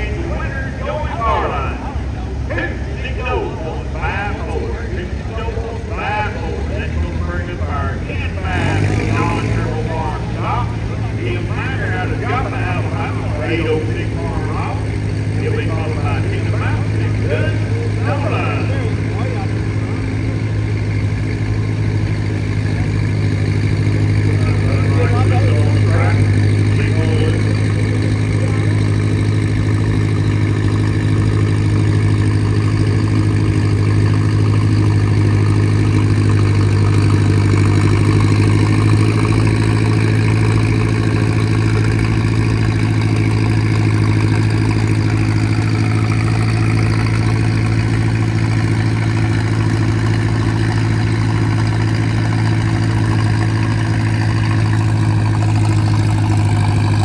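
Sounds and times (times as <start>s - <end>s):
tractor engine droning: 0.0s - 57.0s.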